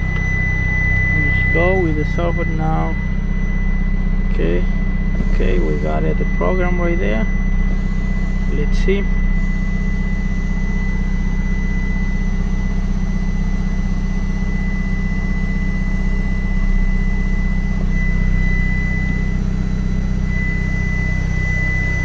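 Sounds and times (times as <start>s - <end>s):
diesel truck engine idling: 0.0s - 22.0s
thin steady high tone: 0.0s - 22.0s.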